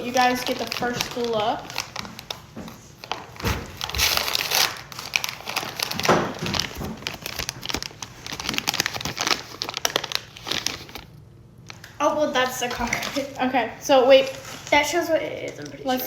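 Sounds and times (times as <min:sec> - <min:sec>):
plastic packaging crinkling and tearing: 0:00.0 - 0:16.0.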